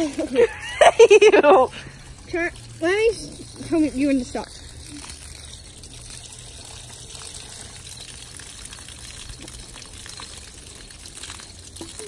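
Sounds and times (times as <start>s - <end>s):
water trickling onto grass: 0.0s - 12.0s.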